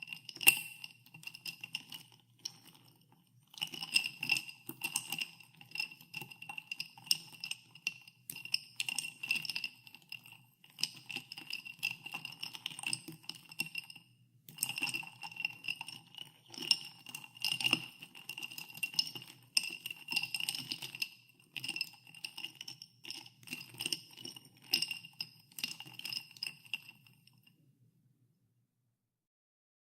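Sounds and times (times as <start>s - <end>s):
ice cubes clinking in a glass: 0.0s - 2.9s, 3.5s - 27.2s.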